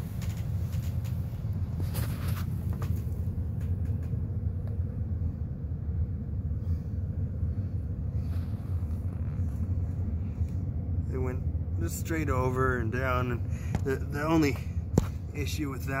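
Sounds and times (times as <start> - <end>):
furnace rumbling: 0.0 - 16.0.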